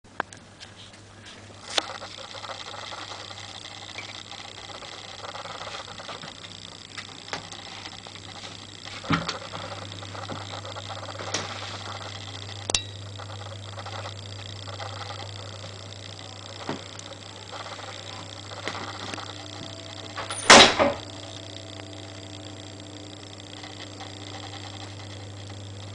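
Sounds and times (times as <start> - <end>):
room hum and hiss: 0.1 - 25.9.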